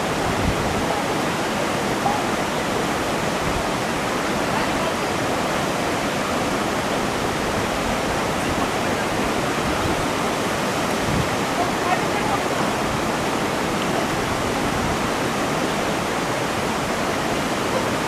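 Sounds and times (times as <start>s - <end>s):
rushing creek water and waterfall: 0.0s - 18.0s.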